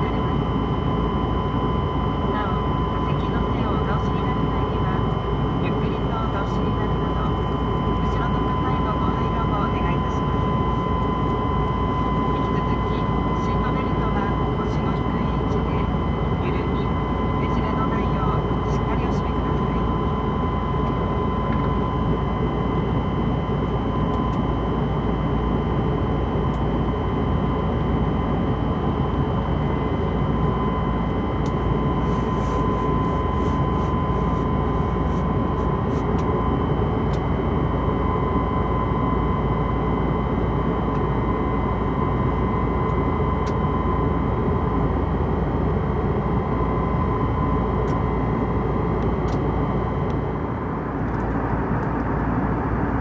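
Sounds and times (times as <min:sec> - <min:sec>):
jet engine and airflow rush: 0:00.0 - 0:53.0
steady whine: 0:00.0 - 0:53.0.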